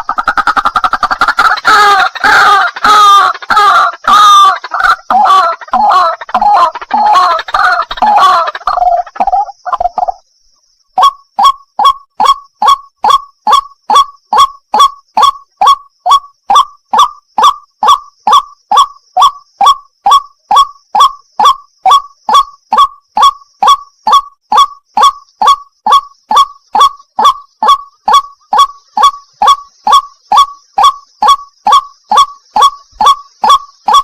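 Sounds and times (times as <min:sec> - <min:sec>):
waterhen calling: 0:00.0 - 0:10.2, 0:11.0 - 0:34.0.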